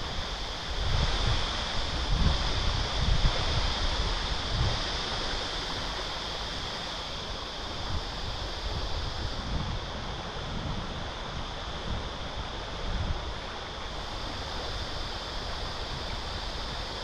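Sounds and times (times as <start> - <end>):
high hiss: 0.0 - 17.0
wind on microphone: 0.0 - 17.0.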